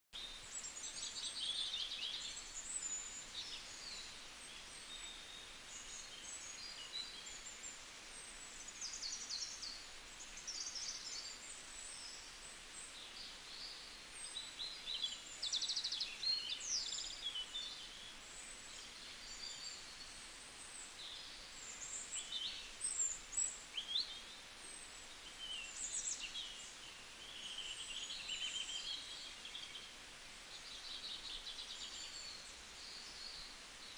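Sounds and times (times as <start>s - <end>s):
steady background hiss: 0.2s - 33.9s.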